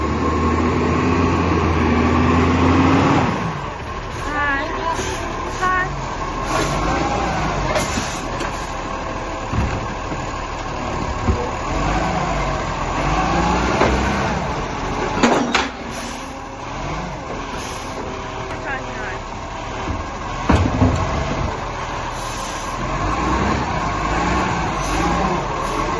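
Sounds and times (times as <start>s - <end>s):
garbage truck engine running: 0.0s - 25.9s.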